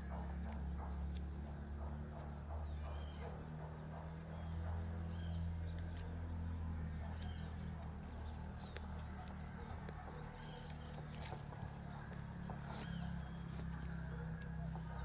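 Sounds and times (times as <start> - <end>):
steady low hum: 0.0 - 15.0
bird chirping: 1.8 - 15.0.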